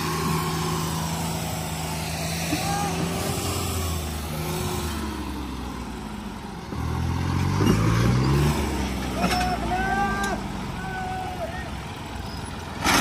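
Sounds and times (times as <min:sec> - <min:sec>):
tractor diesel engines revving: 0:00.0 - 0:13.0.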